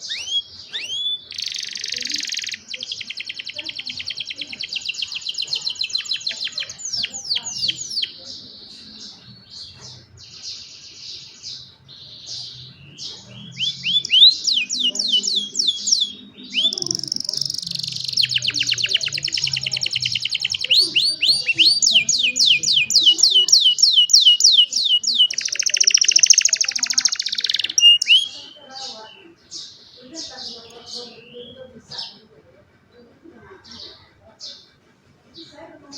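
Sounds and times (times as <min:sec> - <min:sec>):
canary singing: 0:00.0 - 0:34.8.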